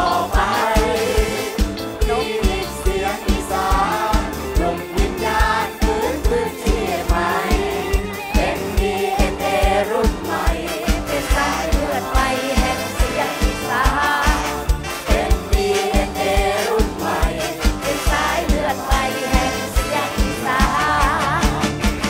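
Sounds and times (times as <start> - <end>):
band backing: 0.0 - 22.0
group singing: 0.0 - 22.0
steady kick drum beat: 0.0 - 22.0.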